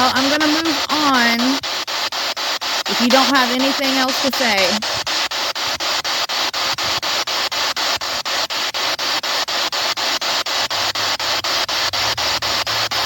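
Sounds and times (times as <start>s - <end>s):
radio static sweeping: 0.0s - 13.0s.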